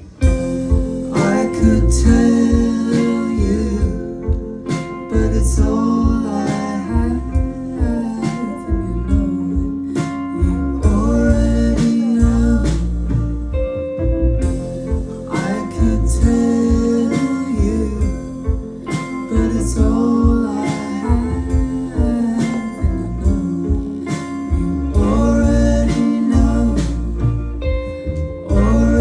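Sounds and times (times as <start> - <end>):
bass guitar: 0.0 - 29.0
drums: 0.0 - 29.0
electric guitar: 0.0 - 29.0
person singing: 0.0 - 29.0.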